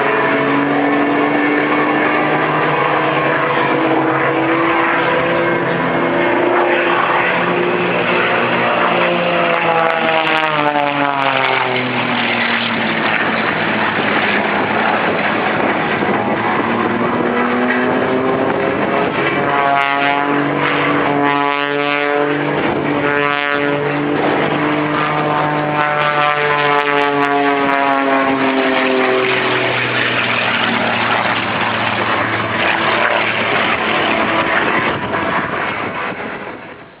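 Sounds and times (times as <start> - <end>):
propeller plane engine droning: 0.0 - 37.0.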